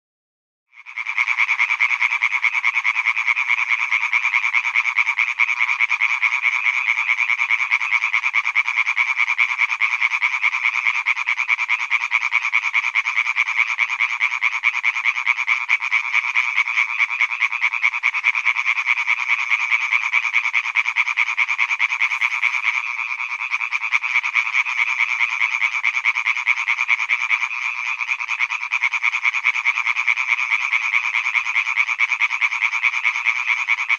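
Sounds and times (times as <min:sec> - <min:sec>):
tree frogs croaking chorus: 0:00.7 - 0:33.9.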